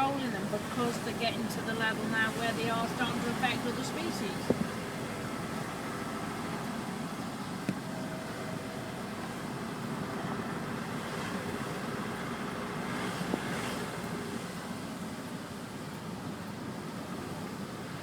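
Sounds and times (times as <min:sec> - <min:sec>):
car engine: 0:00.0 - 0:18.0
road noise: 0:00.0 - 0:18.0.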